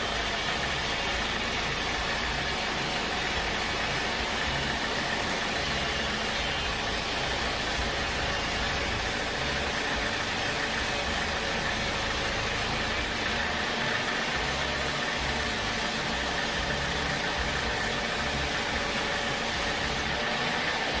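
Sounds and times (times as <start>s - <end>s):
high mechanical whine: 0.0s - 21.0s
sawmill machinery running: 0.0s - 21.0s.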